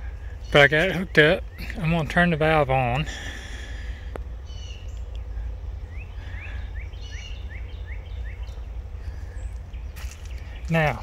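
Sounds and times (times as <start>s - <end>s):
bird chirping: 0.0s - 11.0s
steady low rumble: 0.0s - 11.0s.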